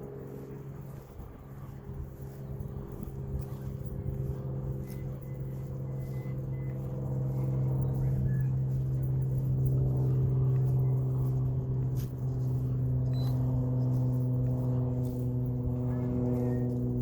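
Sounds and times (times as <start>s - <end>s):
model airplane motor humming: 0.0s - 17.0s
wind rumbling on microphone: 0.0s - 17.0s.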